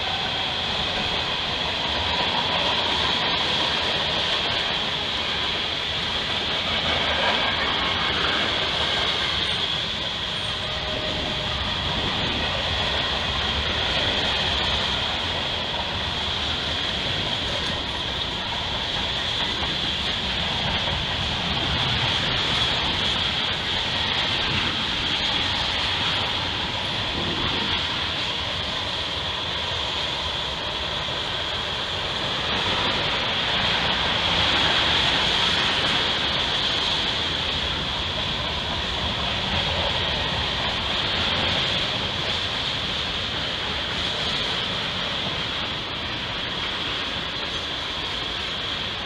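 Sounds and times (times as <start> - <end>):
freight train wheels rumbling: 0.0 - 49.0.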